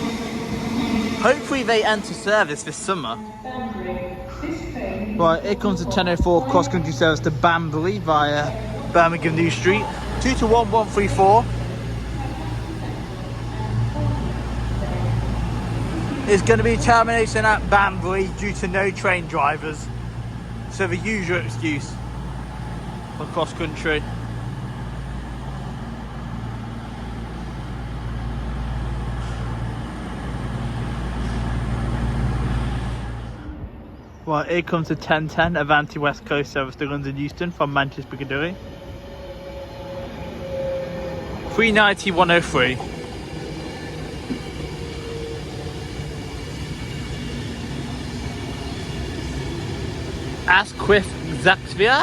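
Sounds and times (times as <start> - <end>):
train diesel engines running: 0.0 - 52.0.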